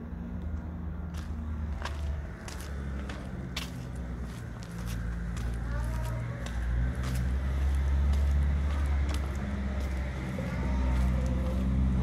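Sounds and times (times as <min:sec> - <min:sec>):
engine running rumble: 0:00.0 - 0:12.0
footsteps on cobblestones: 0:00.5 - 0:12.0.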